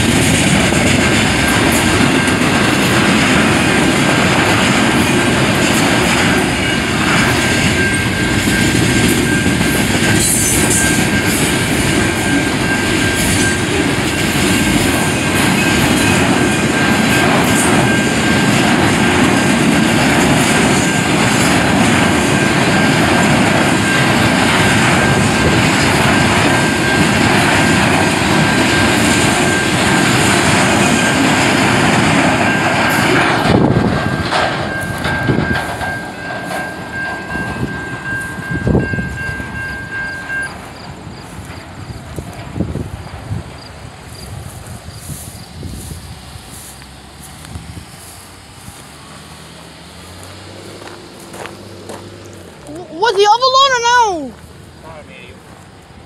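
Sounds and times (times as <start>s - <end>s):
train wheels rattling on rails: 0.0s - 56.0s.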